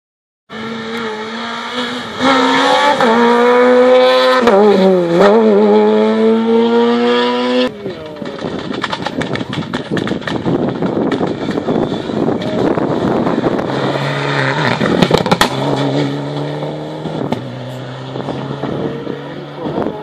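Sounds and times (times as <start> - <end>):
rally car engine accelerating: 0.5 - 20.0.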